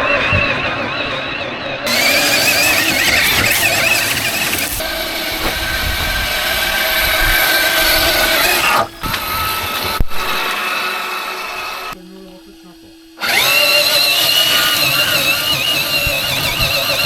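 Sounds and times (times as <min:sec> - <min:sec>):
toy car motor and gears whining: 0:00.0 - 0:17.0.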